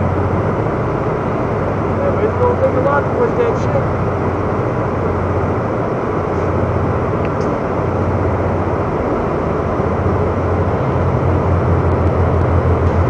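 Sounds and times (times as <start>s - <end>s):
constant low hum: 0.0s - 13.0s
diesel engines rumbling: 0.0s - 13.0s.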